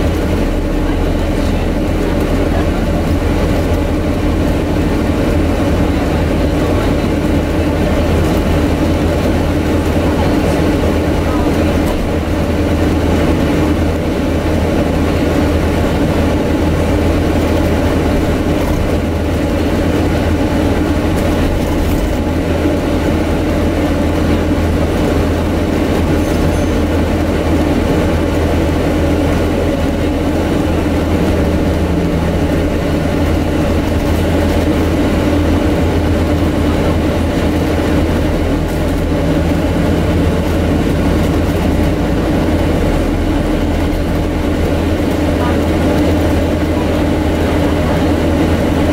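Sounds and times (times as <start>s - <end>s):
bus air-conditioning drone: 0.0s - 48.9s
low hum of running bus: 0.0s - 48.9s.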